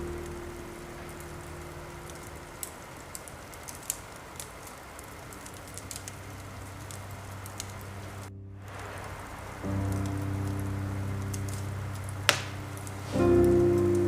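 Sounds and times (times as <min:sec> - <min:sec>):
fireplace crackles: 0:00.0 - 0:14.0
low sustained music tones: 0:00.0 - 0:14.0
rain hissing: 0:00.0 - 0:14.0.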